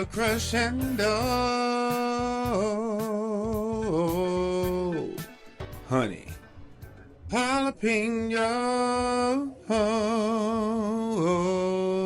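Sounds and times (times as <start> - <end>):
man singing with vibrato: 0.0 - 6.4, 7.3 - 12.0.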